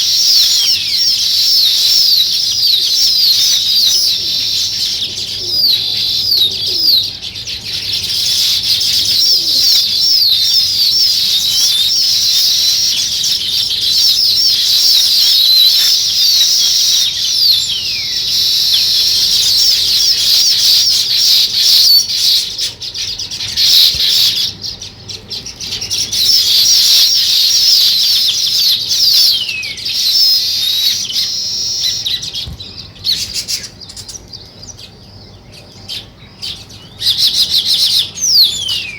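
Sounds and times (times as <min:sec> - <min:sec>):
flock of songbirds chirping: 0:00.0 - 0:38.9.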